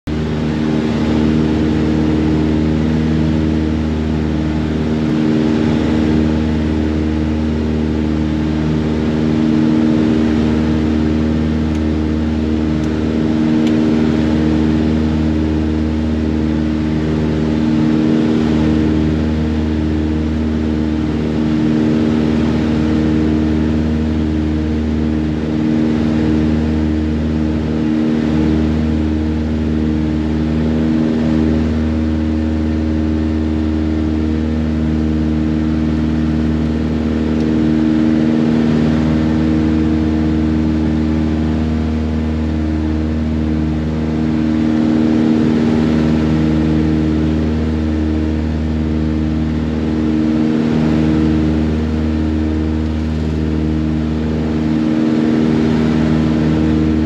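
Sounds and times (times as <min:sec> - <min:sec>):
aircraft engines droning: 0:00.1 - 0:57.0.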